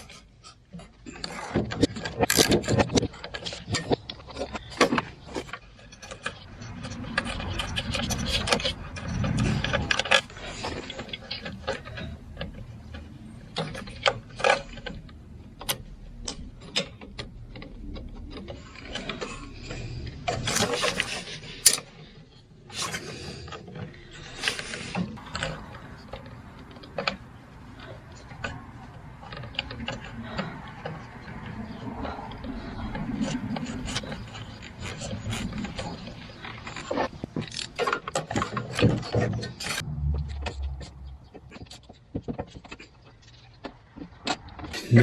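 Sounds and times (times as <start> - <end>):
hand tools clicking and knocking: 0.8 - 39.8
metal parts scraping rattles: 0.8 - 43.6.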